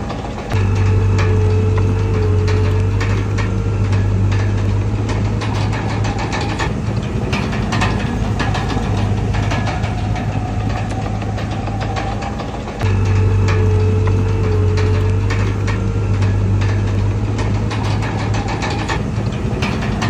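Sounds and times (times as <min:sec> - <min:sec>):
bulldozer diesel engine running: 0:00.0 - 0:20.0
metallic clicks and clanks: 0:00.0 - 0:20.0.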